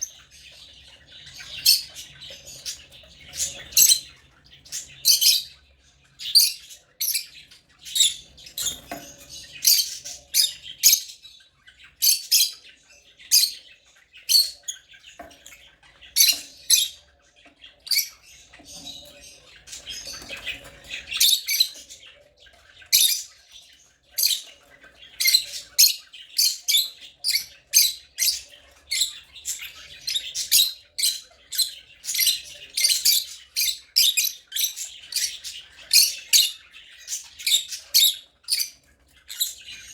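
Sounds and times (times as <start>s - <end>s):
soft bird chattering: 0.0s - 39.9s.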